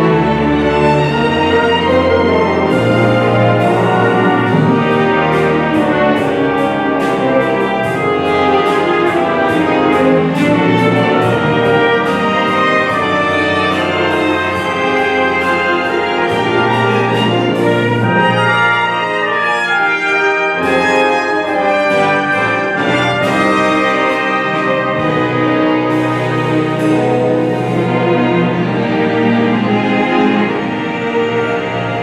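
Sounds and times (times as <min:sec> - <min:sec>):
percussion beat: 0:00.0 - 0:18.5, 0:20.6 - 0:28.5
brass section: 0:00.0 - 0:32.0
strings: 0:00.0 - 0:32.0.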